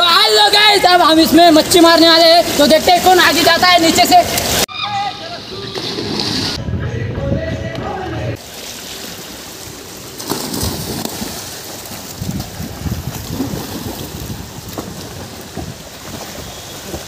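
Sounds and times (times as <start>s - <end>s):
pool water splashing: 0.0s - 6.6s, 8.3s - 17.0s.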